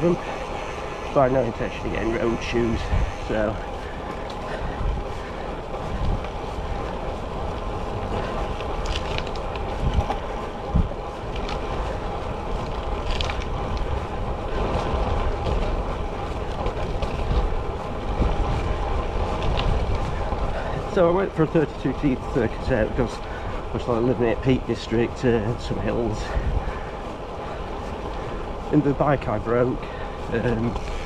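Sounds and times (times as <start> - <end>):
road noise: 0.0 - 31.0
wind on microphone: 0.0 - 31.0.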